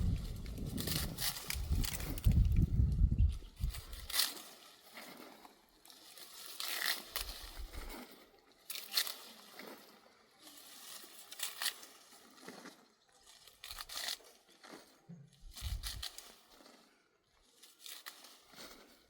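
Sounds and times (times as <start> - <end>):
rustling and crunching: 0.0 - 19.0.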